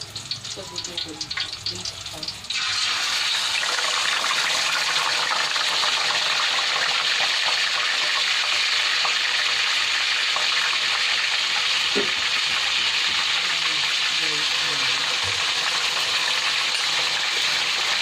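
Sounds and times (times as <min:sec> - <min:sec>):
pork sizzling in hot oil: 0:00.0 - 0:18.0.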